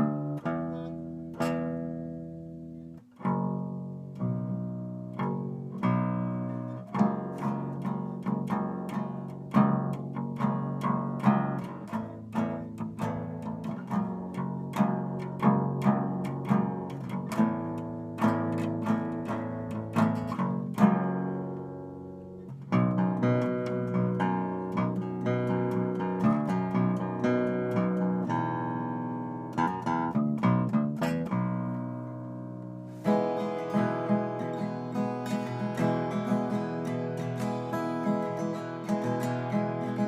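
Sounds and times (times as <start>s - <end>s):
electric guitar picked and strummed: 0.0s - 40.0s.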